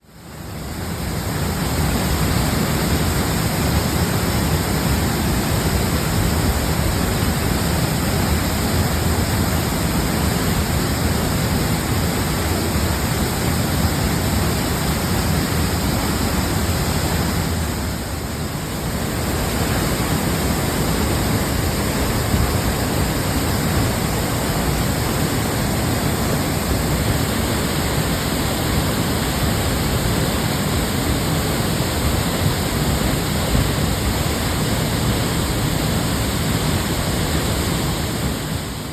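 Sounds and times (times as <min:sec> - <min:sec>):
waterfall rushing: 0:00.2 - 0:38.9.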